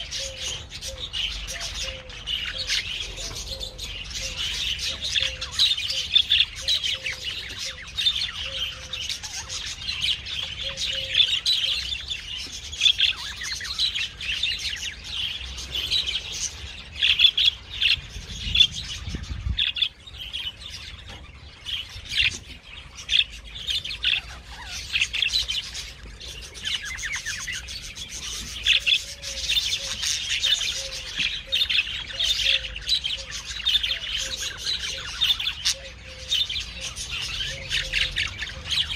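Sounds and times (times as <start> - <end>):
parrots chirping: 0.0 - 38.9.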